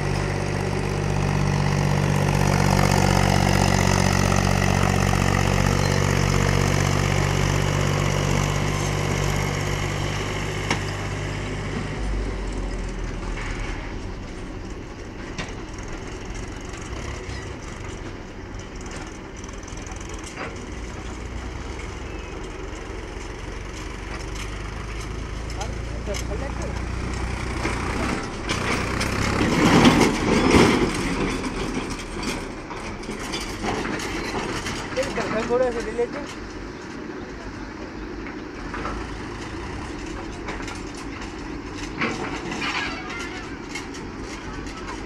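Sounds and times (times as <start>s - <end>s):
tractor diesel engine: 0.0s - 45.0s.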